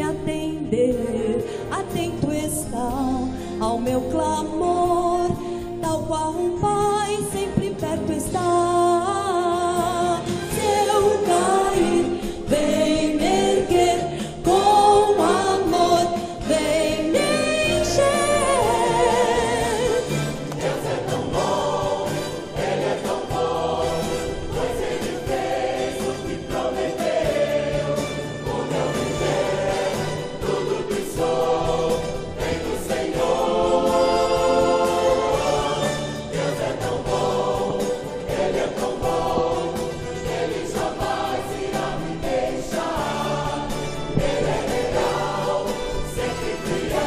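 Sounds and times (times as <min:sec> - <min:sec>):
musical accompaniment: 0:00.0 - 0:47.0
mixed choir singing: 0:08.2 - 0:47.0.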